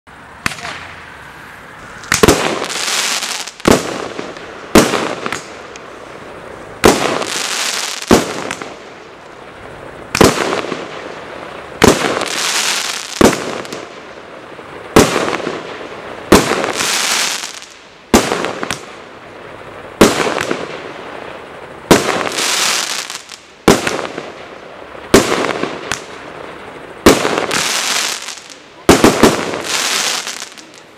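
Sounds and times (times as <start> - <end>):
crackling hiss: 0.1 - 30.9
firework bangs: 0.4 - 30.9.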